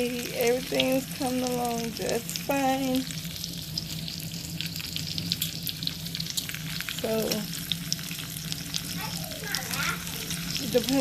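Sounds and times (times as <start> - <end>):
bacon sizzling: 0.0 - 11.0
grease popping: 0.0 - 11.0.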